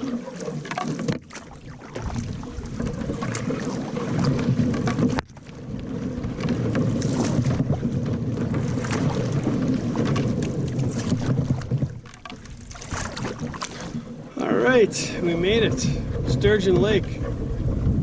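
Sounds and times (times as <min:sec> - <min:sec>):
water splashing around canoe: 0:00.0 - 0:18.0
wind on microphone: 0:01.4 - 0:18.0.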